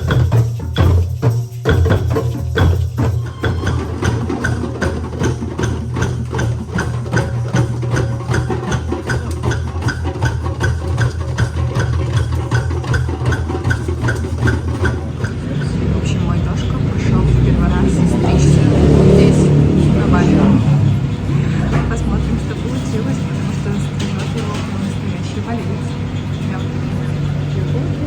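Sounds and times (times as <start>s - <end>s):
music with percussive beat: 0.0s - 28.0s.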